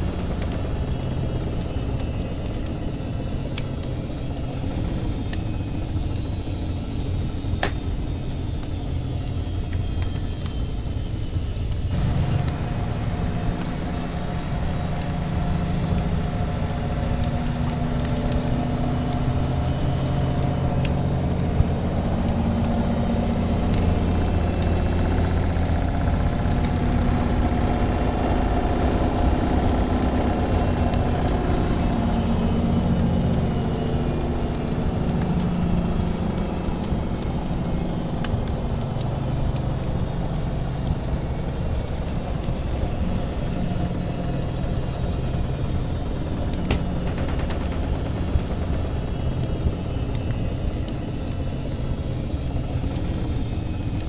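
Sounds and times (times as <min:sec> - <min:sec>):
washing machine rumble and hum: 0:00.0 - 0:54.0
wood fire crackling: 0:00.0 - 0:54.0.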